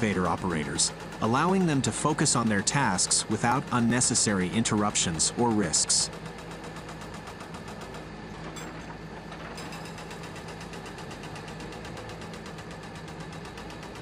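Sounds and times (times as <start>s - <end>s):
excavator engine running: 0.0s - 14.0s
hydraulic breaker hammering: 0.0s - 14.0s.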